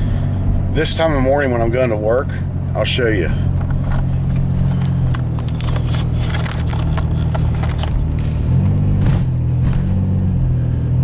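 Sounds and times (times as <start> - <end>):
road noise: 0.0 - 11.0
van engine drone: 0.0 - 11.0.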